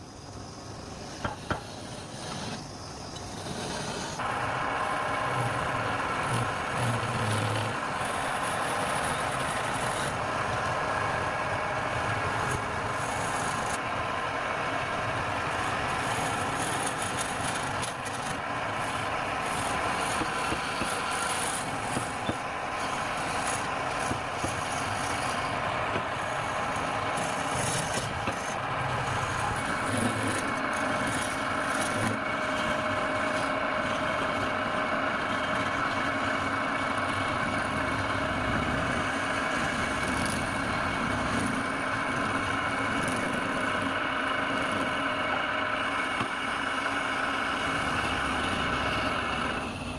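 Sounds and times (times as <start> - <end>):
lathe motor whine: 0.0 - 49.9
tool scraping spinning wood: 0.8 - 49.9.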